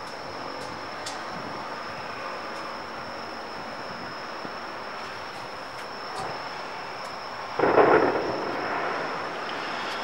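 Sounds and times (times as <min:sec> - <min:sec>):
far-off traffic and trains: 0:00.0 - 0:10.0.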